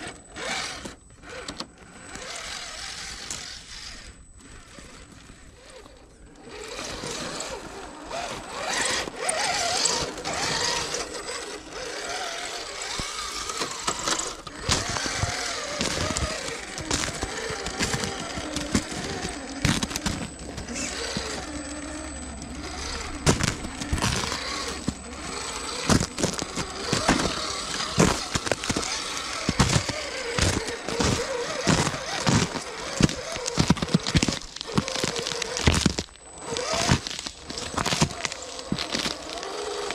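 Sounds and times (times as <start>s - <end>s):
electric drivetrain whining: 0.0s - 39.9s
tyres crunching through icy snow: 0.0s - 39.9s
ice cracking: 6.6s - 39.9s.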